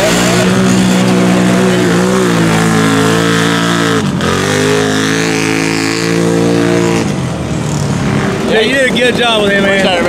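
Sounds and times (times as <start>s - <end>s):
vehicle engine revving hard: 0.0s - 8.6s.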